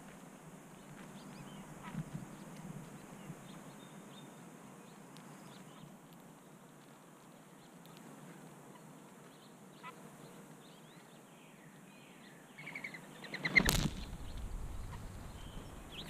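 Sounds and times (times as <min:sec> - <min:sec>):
small birds chirping: 0:00.7 - 0:16.0.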